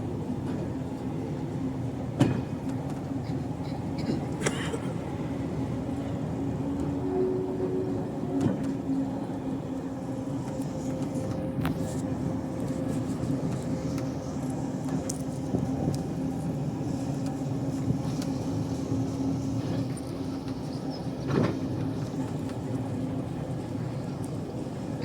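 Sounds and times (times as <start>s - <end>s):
continuous rumble: 0.0s - 25.0s
diesel train engine running: 0.0s - 25.0s.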